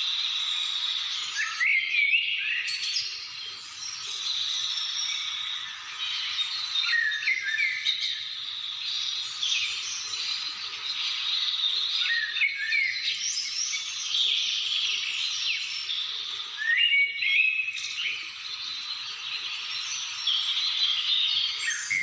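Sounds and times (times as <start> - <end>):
birds singing and calling: 0.0 - 22.0.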